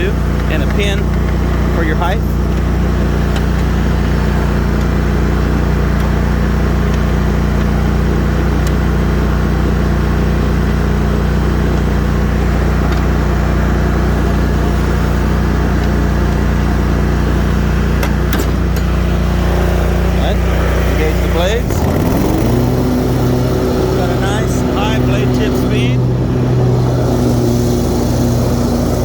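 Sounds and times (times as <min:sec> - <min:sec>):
mower engine running steadily: 0:00.0 - 0:29.0.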